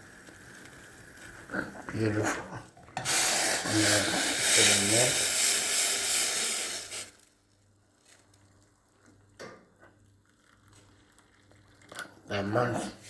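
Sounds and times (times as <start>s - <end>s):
hot water pouring: 0.0s - 13.0s.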